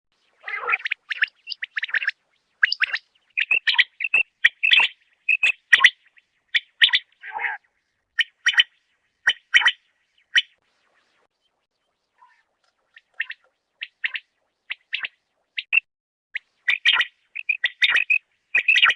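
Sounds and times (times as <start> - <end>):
quail calling: 0.4 - 10.5, 12.2 - 15.8, 16.6 - 18.9.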